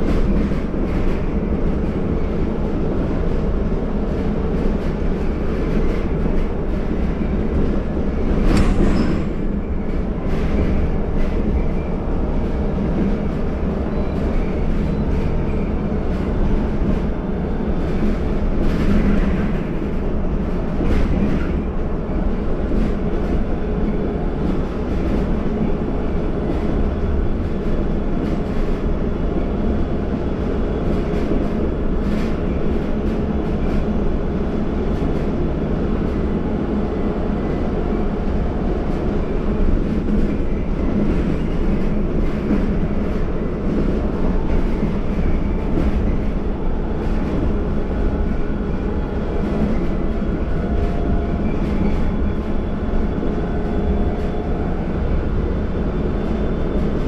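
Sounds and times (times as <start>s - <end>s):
bus drivetrain and tyres droning: 0.0s - 57.0s.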